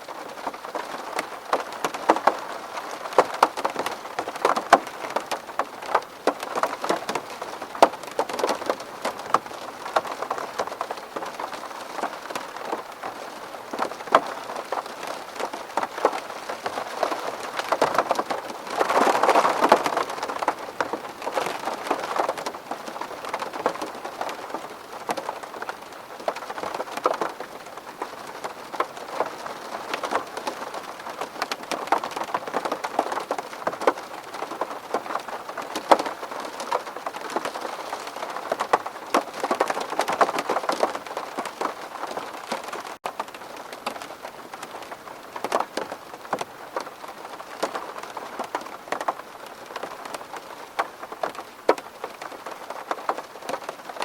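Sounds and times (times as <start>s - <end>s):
rain pattering on window: 0.0s - 54.0s.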